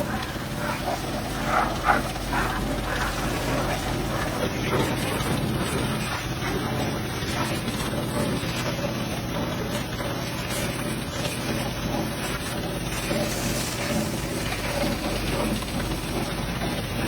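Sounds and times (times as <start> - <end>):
pressure washer motor hum: 0.0 - 17.0.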